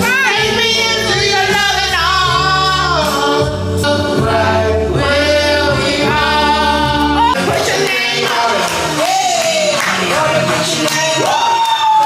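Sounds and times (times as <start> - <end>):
steady bass: 0.0 - 10.8
gospel-style singing: 0.0 - 12.0.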